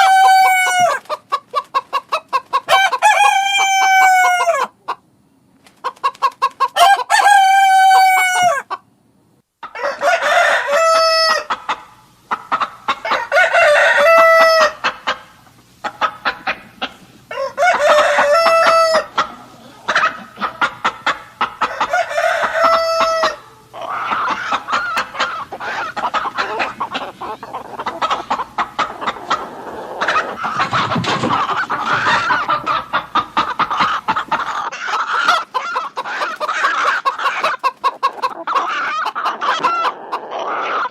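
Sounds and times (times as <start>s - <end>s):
roosters crowing: 0.0s - 4.8s, 6.6s - 8.8s, 9.6s - 11.7s, 12.9s - 15.2s, 17.2s - 40.9s
chickens clucking: 0.0s - 9.0s, 9.6s - 40.9s.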